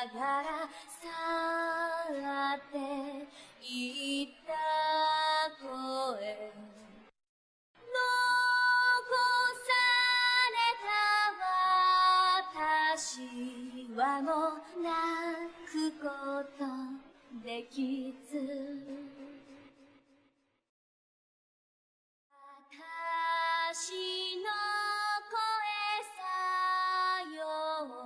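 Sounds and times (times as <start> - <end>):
woman singing song: 0.0 - 7.1, 7.8 - 19.6, 22.4 - 28.0.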